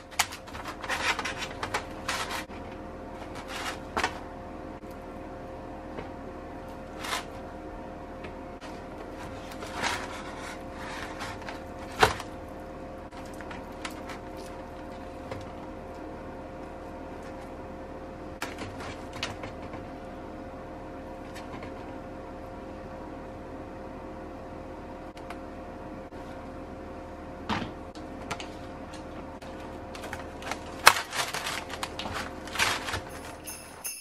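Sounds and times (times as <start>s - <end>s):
background hum: 0.0s - 34.0s.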